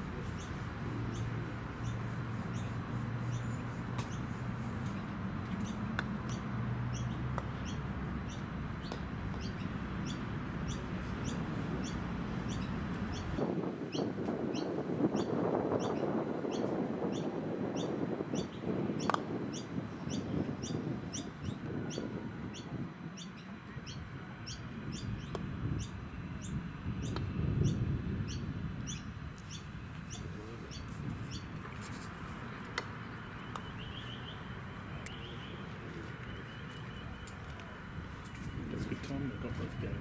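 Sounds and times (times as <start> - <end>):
low rumbling noise: 0.0 - 40.0
bird chirping: 0.1 - 31.6, 33.0 - 37.6.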